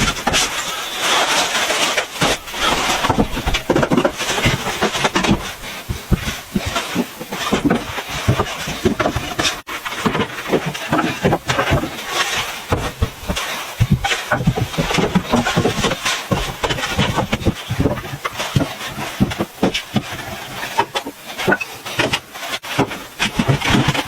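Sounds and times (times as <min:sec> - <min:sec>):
knocks and scrapes of handwork: 0:00.0 - 0:24.0.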